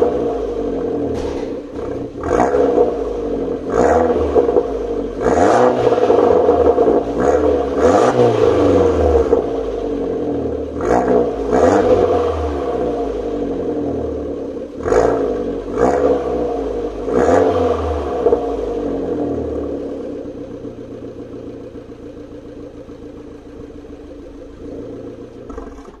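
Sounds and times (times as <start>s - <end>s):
car engine idling: 0.0s - 26.0s
car engine throttle blips: 0.0s - 26.0s.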